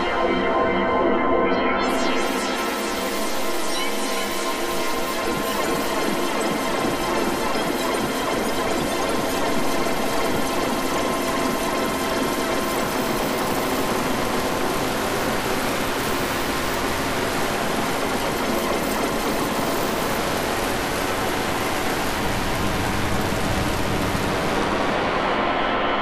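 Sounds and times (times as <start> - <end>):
dense machine-like noise wash: 1.9 - 26.0.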